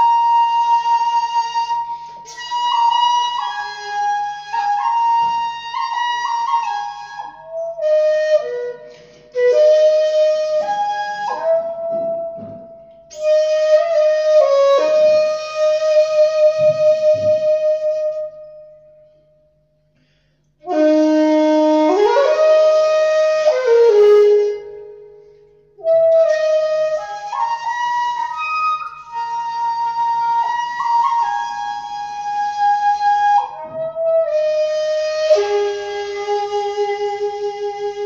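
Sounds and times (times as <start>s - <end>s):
bamboo flute playing: 0.0s - 19.7s, 20.6s - 38.0s.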